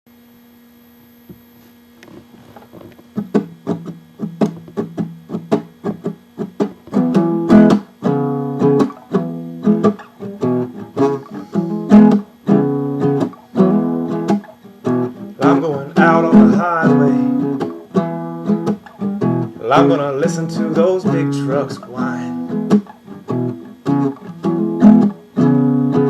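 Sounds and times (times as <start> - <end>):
guitar picked notes: 3.1 - 26.0
guitar strummed chords: 3.1 - 26.0.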